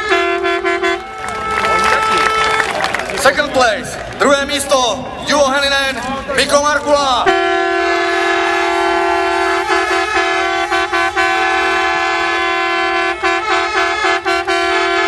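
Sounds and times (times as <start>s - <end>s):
horn long steady note: 0.0s - 15.0s.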